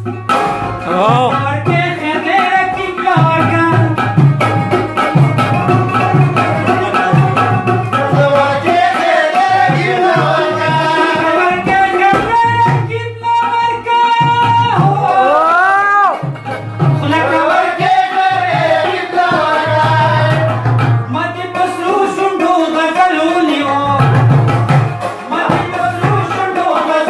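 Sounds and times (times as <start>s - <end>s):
hand drumming on a metal pot: 0.0s - 27.0s
rubab: 0.0s - 27.0s
man singing: 0.8s - 4.2s, 5.6s - 16.2s, 16.9s - 24.4s, 25.1s - 27.0s.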